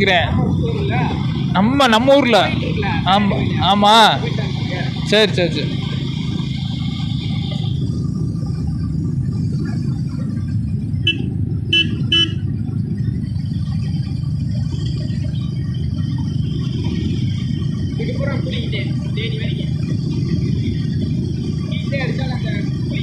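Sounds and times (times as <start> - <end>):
motorcycle engine and wind rumble: 0.0 - 23.0.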